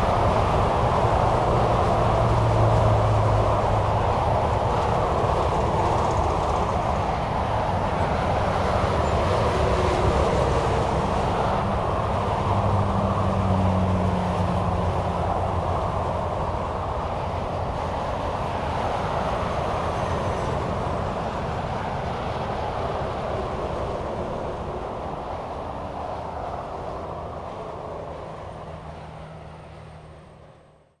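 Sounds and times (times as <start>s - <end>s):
highway traffic rushing: 0.0s - 31.0s.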